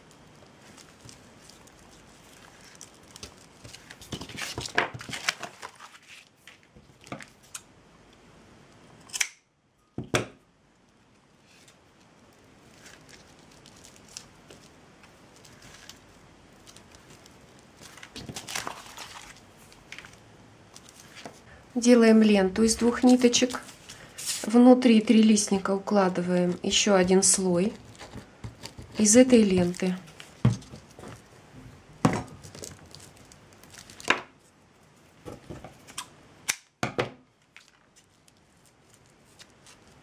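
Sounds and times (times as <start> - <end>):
twine rustling: 0.0 - 7.5, 11.3 - 36.0, 37.4 - 40.0.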